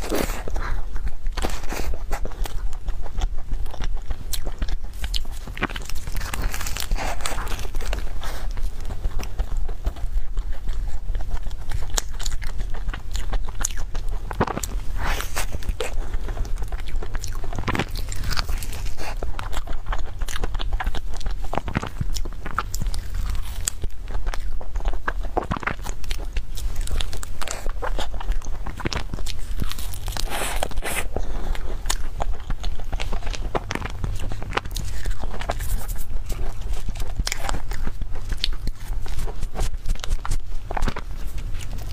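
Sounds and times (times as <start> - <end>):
crunchy pastry chewing: 0.0 - 41.9
steady low hum: 0.0 - 41.9.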